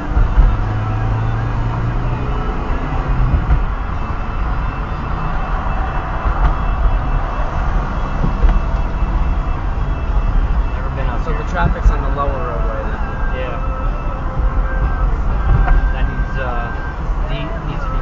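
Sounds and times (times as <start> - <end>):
car engine hum: 0.0 - 18.0
tyre and road noise: 0.0 - 18.0.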